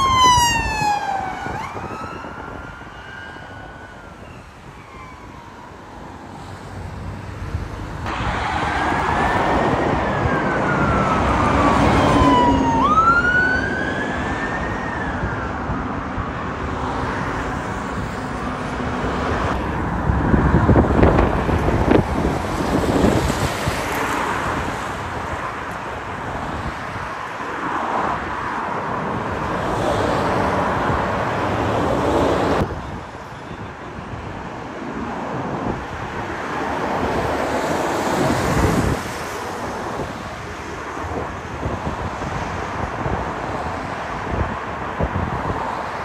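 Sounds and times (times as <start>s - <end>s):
wind buffeting microphone: 0.0s - 5.8s, 6.7s - 27.2s, 28.0s - 46.0s
road traffic passing: 0.0s - 46.0s.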